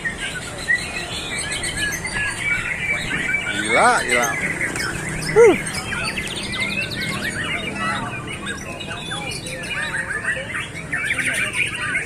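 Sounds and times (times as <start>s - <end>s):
birds singing chorus: 0.0s - 12.0s.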